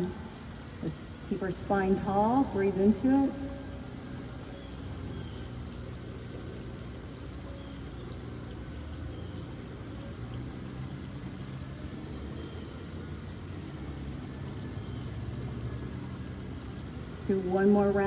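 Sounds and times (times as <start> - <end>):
distant engine humming: 0.0 - 18.0.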